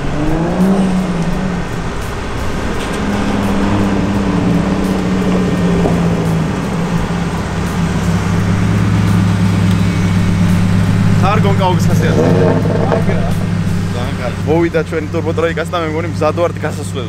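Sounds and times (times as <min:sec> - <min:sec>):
car creeping past: 0:00.0 - 0:16.6
car engines idling: 0:00.0 - 0:17.0.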